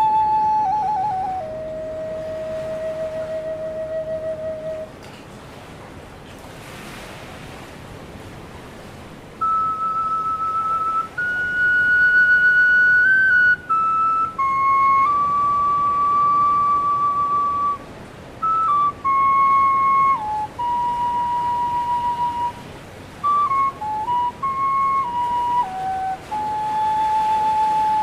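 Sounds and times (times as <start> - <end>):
slow flute-like solo melody: 0.0 - 5.0, 9.4 - 28.0.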